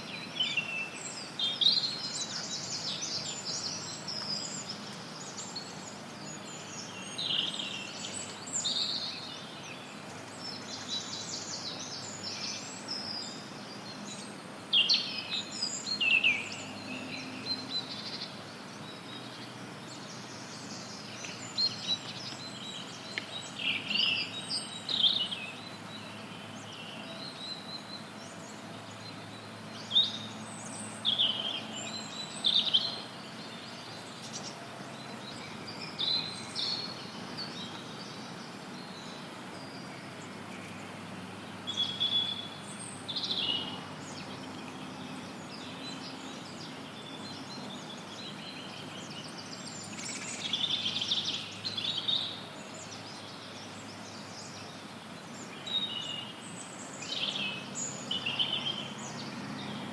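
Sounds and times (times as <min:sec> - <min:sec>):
songbirds chirping and trilling: 0:00.0 - 0:59.9
steady background hiss: 0:00.0 - 0:59.9.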